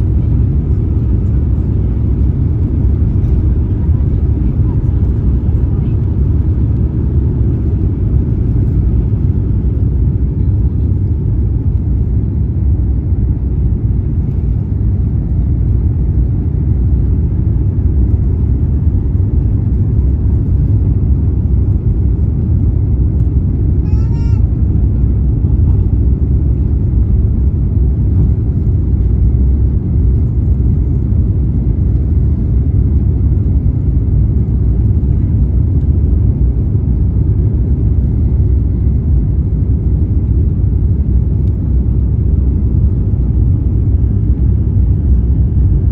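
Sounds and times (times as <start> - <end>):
jet engines rumbling: 0.0 - 45.9.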